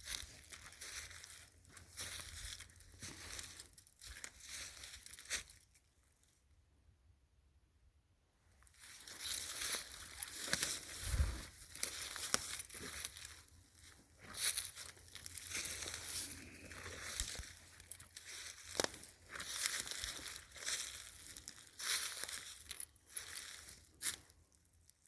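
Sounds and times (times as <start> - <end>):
footsteps crunching through leaves: 0.0 - 5.6, 8.7 - 24.3.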